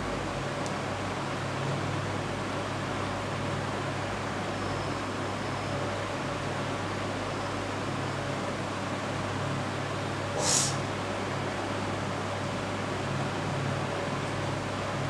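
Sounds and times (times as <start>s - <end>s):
induction cooktop whirr and hum: 0.0s - 15.0s.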